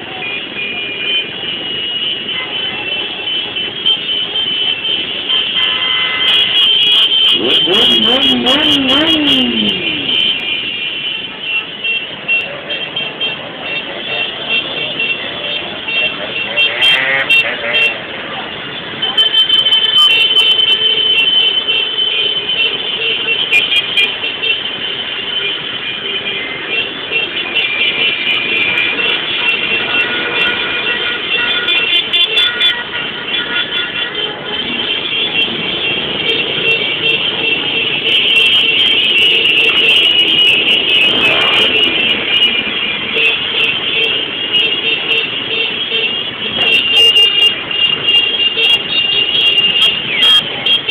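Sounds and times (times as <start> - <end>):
motorcycle: 0.0 - 50.9
street traffic: 0.0 - 50.9.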